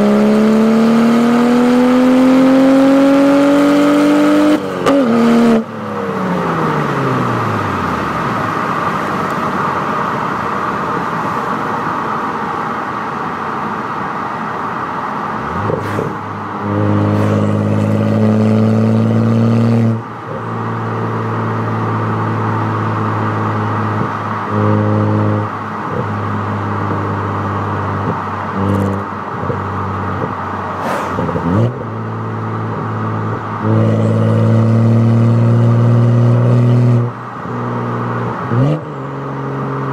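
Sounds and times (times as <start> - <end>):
car engine exhaust: 0.0 - 39.9.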